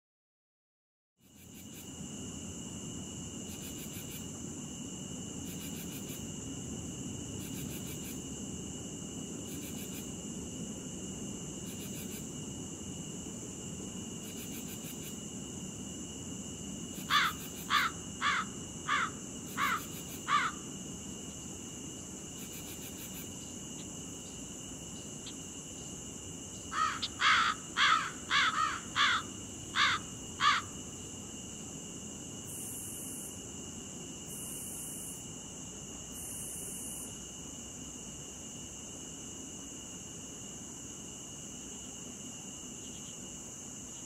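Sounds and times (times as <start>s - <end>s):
insects chirring: 1.2s - 44.0s.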